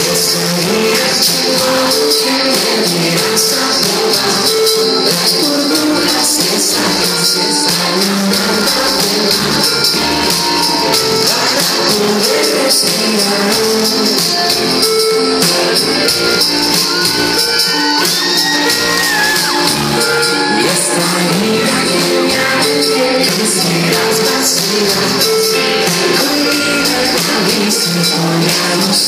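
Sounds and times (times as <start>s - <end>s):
live pop-rock band: 0.0s - 29.0s.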